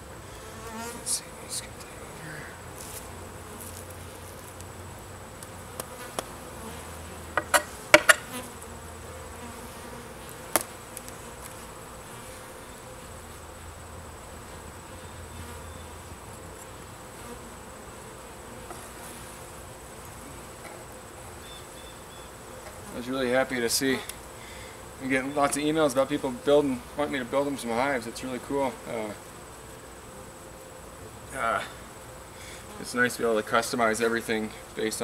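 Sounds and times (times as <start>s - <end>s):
bees buzzing: 0.0s - 35.0s.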